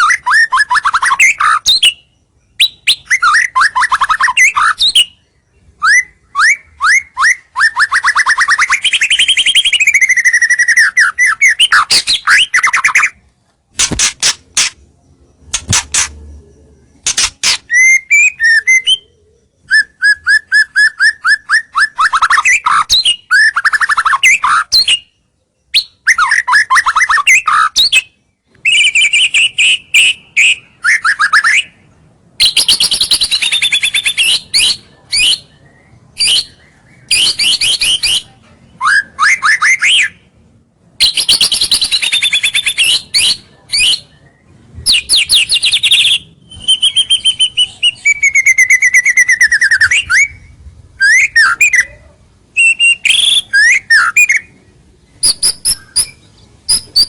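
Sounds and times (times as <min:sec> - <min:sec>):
bird singing varied phrases: 0:00.0 - 0:57.0.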